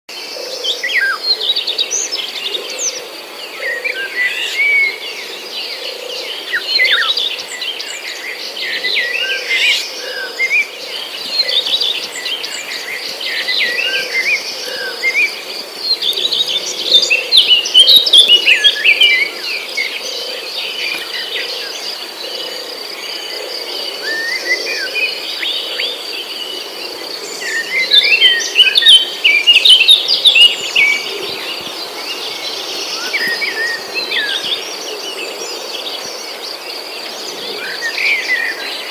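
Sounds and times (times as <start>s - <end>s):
high insect drone: 0.1s - 38.9s
small birds chirping and twittering: 0.1s - 38.9s.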